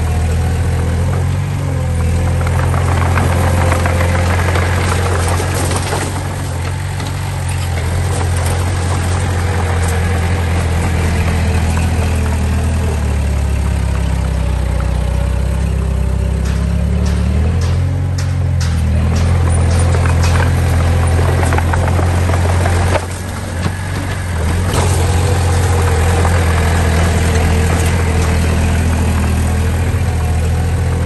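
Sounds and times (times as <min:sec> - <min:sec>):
diesel engine running: 0:00.0 - 0:31.0
metallic clanks and rattles: 0:02.0 - 0:31.0.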